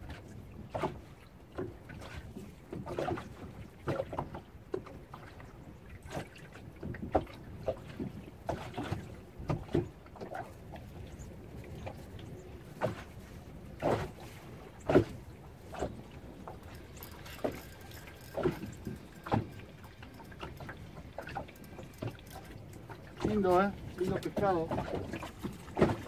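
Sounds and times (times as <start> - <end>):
waves lapping against boat hull: 0.0 - 26.0.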